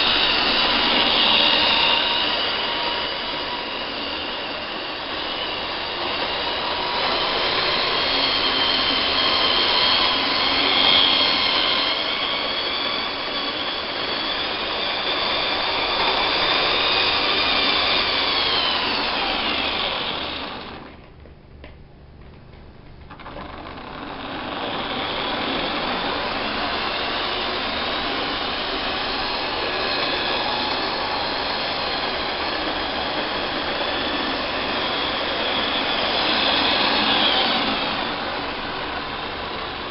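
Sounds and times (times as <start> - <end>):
model train motor whine: 0.0 - 21.0, 23.1 - 39.9.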